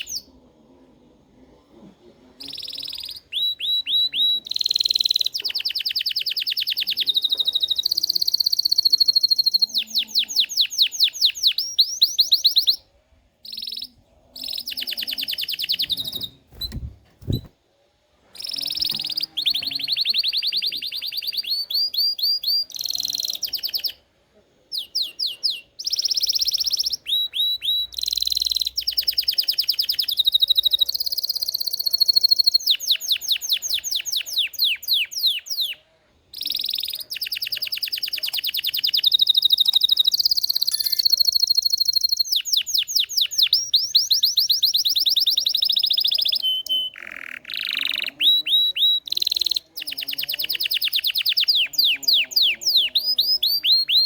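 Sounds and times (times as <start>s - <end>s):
canary singing trills: 0.0s - 0.4s, 2.4s - 17.5s, 18.4s - 24.0s, 24.7s - 54.0s.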